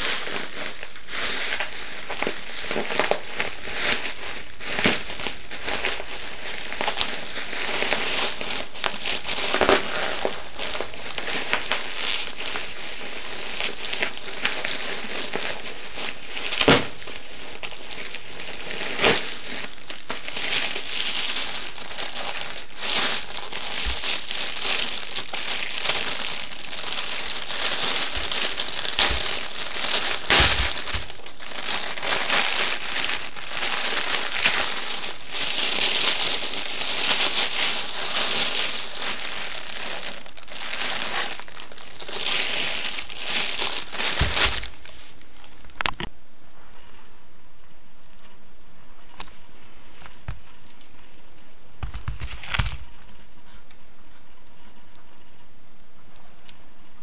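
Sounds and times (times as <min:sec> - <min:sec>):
plastic bags crinkling: 0:00.0 - 0:46.1, 0:48.9 - 0:53.8.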